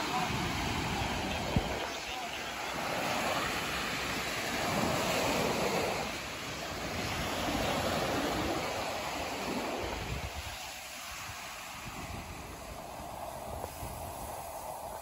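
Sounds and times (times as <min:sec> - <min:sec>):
wind buffeting the microphone: 0:00.0 - 0:02.0, 0:02.8 - 0:15.0
small waves breaking on a beach: 0:00.0 - 0:15.0.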